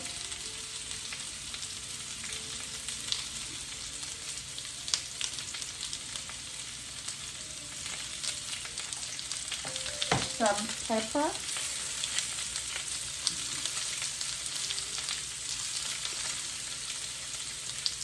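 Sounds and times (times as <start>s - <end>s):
potatoes sizzling in a pan: 0.0s - 18.0s.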